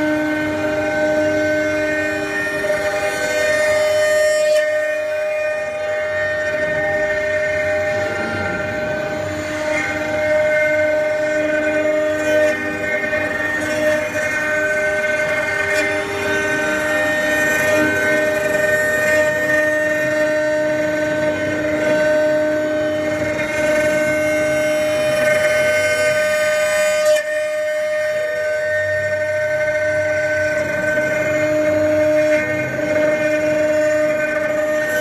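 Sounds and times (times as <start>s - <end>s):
engraving router motors whining: 0.0s - 35.0s.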